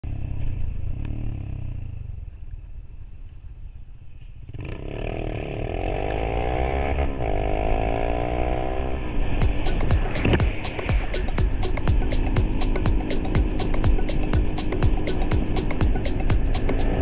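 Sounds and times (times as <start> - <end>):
motorcycle engine: 0.0 - 17.0.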